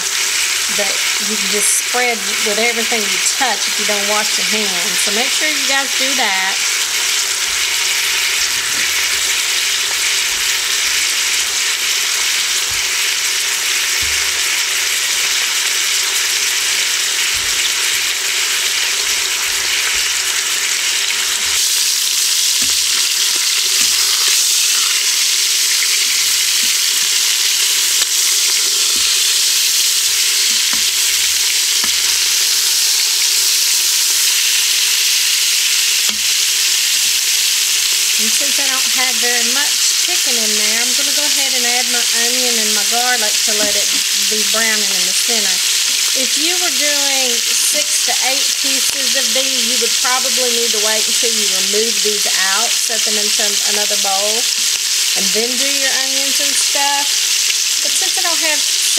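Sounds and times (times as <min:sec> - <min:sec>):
chicken frying in oil: 0:00.0 - 0:58.9.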